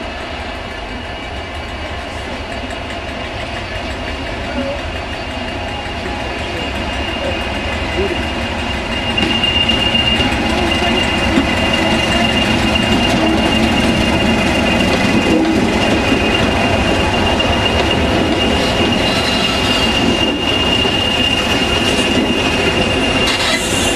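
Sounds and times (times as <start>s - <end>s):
diesel locomotive engines running: 0.0s - 23.9s
wheels rumbling on rail: 0.0s - 23.9s
high wheel squeal: 4.5s - 23.9s.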